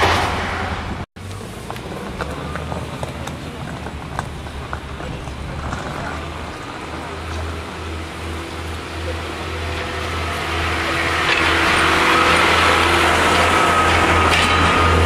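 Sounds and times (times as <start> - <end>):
diesel train engine: 0.0 - 15.0
train passing by: 0.0 - 15.0.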